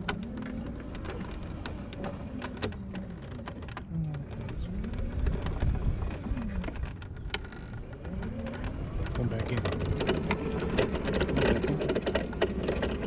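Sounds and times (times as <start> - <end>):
buggy wheels and motor rumble: 0.0 - 13.0.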